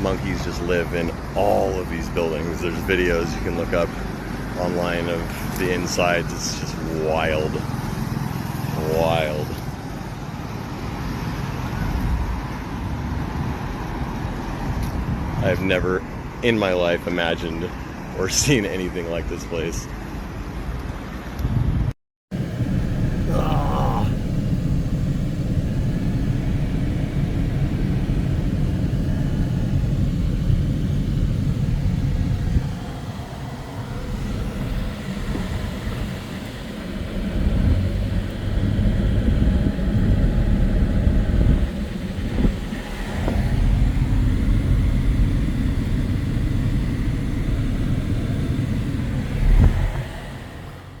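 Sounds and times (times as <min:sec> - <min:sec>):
continuous low rumble: 0:00.0 - 0:51.0.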